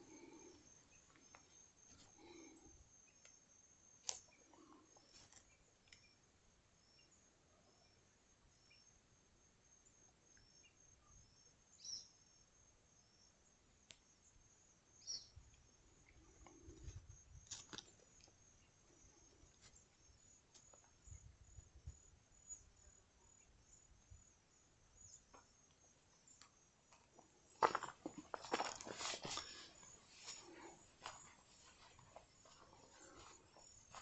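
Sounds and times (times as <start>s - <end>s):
insects trilling and chirping: 0.0s - 34.0s.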